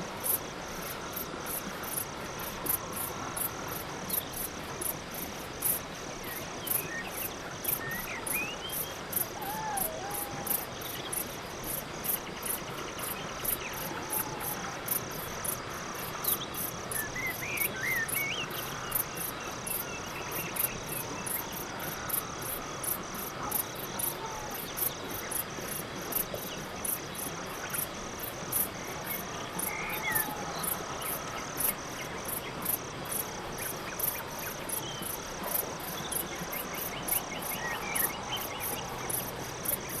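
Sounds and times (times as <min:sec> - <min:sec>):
crickets chirping: 0:00.0 - 0:40.0
steady insect trill: 0:00.0 - 0:40.0.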